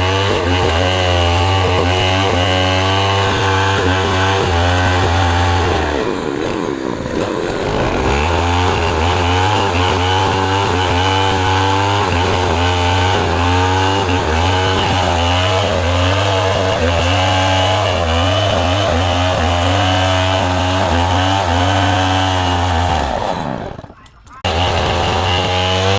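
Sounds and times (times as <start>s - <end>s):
power tool cutting wood: 0.0s - 25.9s.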